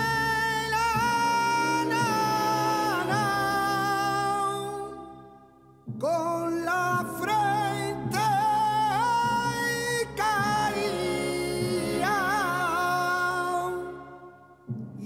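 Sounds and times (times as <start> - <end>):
solo singer holding ornamented notes: 0.0 - 15.0
steady musical accompaniment: 0.0 - 15.0.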